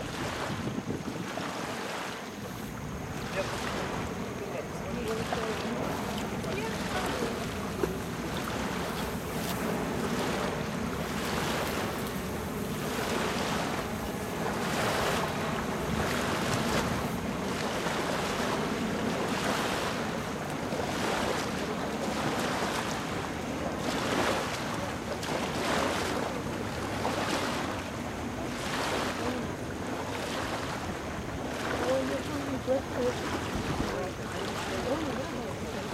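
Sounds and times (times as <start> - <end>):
water sloshing around legs: 0.0 - 35.9
wind buffeting microphone: 0.0 - 35.9.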